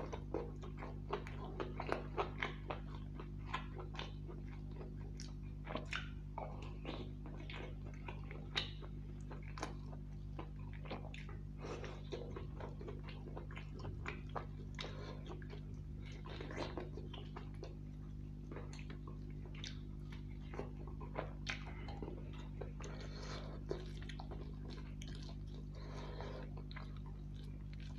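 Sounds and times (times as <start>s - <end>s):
man chewing food: 0.0s - 27.9s
steady low hum: 0.0s - 27.9s.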